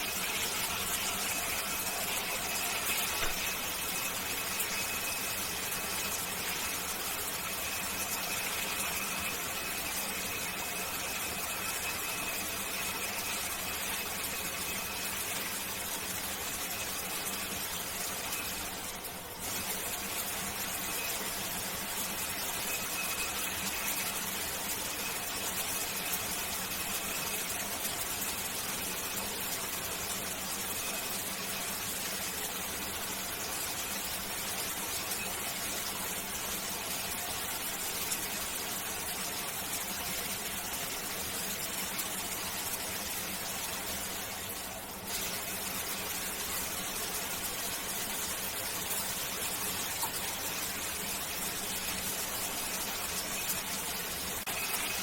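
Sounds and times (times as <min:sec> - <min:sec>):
shower water running: 0:00.0 - 0:55.0.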